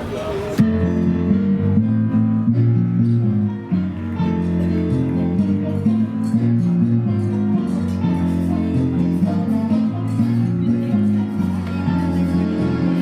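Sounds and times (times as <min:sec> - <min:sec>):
guitar-led background music: 0:00.6 - 0:13.0.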